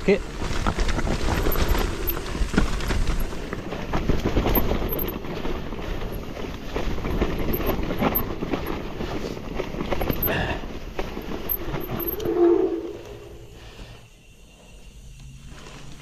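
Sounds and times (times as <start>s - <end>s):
tyres rumbling over rocky ground: 0.0s - 13.6s
bike rattling: 0.0s - 13.9s.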